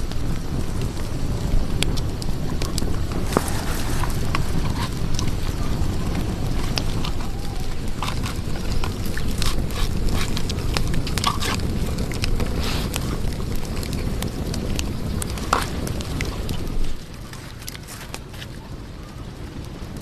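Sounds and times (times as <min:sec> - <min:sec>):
low rumble: 0:00.0 - 0:19.9
wood fire crackling: 0:00.0 - 0:20.0.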